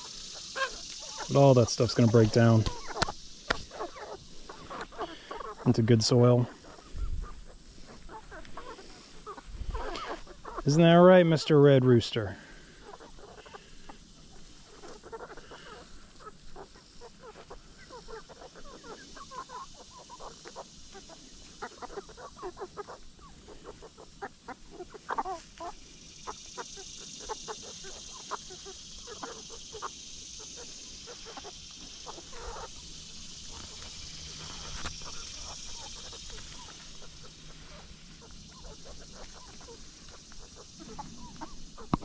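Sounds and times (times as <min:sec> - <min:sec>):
chickens clucking: 0:00.0 - 0:42.0
steady high hiss: 0:00.0 - 0:42.0.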